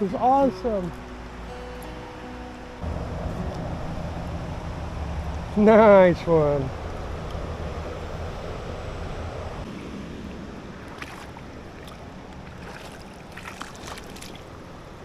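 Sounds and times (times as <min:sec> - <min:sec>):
stream water rushing: 0:00.0 - 0:15.0
wind rumbling on microphone: 0:02.8 - 0:15.0.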